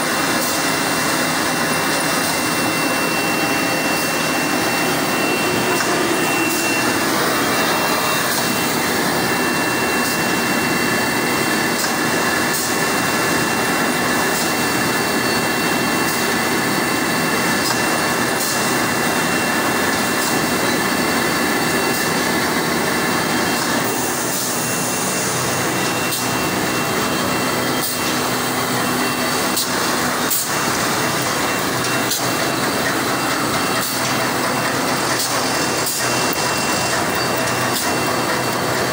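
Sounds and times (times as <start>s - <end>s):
high machine whine: 0.0s - 38.9s
machine drone and hiss: 0.0s - 38.9s.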